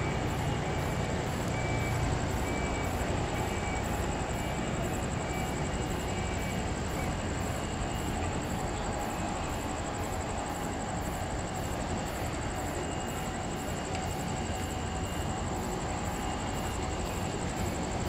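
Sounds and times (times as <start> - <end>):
jet engines low rumble and whine: 0.0 - 18.0.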